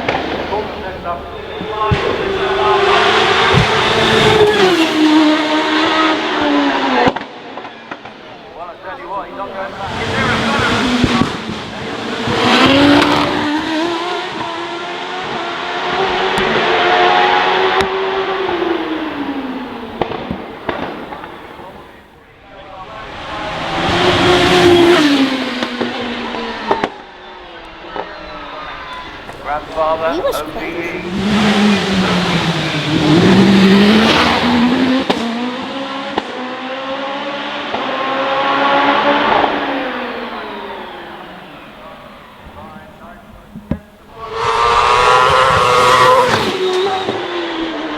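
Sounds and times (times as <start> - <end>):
racing car engine at high revs: 0.0 - 8.2, 9.6 - 21.7, 23.0 - 27.0, 31.0 - 42.5, 44.1 - 47.9.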